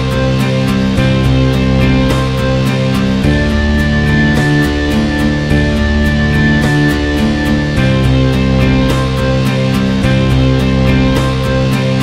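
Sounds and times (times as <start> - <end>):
instrumental music with guitar: 0.0 - 12.0.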